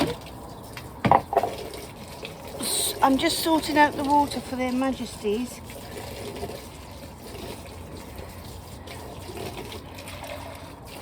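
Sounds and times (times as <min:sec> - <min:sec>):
water running into container: 0:00.0 - 0:11.0.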